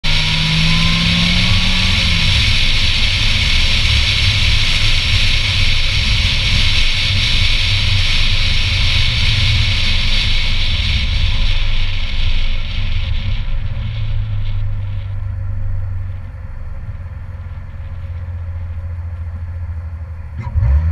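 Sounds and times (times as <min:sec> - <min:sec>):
car engine droning: 0:00.0 - 0:20.9
wind and road noise rushing: 0:00.0 - 0:20.9.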